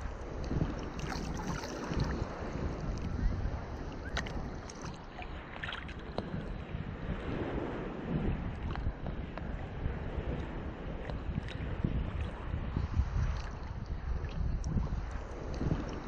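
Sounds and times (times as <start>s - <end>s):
small waves sloshing and splashing: 0.0s - 16.0s
wind rumbling on microphone: 0.0s - 16.0s.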